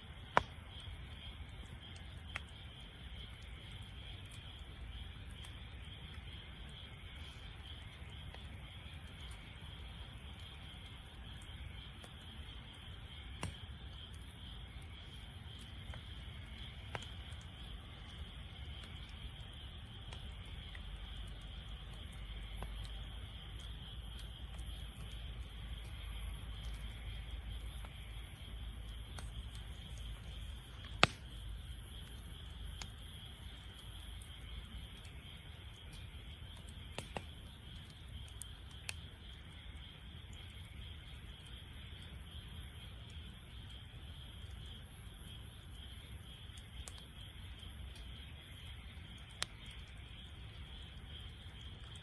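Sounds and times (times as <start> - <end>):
crickets chirring: 0.0 - 52.0
wood fire crackling: 0.0 - 52.0.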